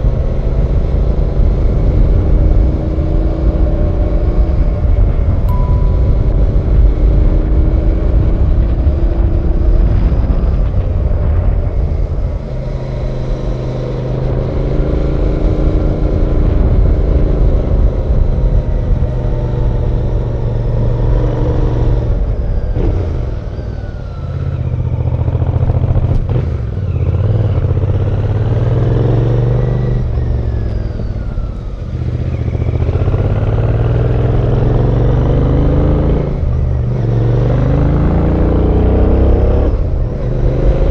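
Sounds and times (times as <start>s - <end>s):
motorcycle engine revving: 6.7s - 40.9s.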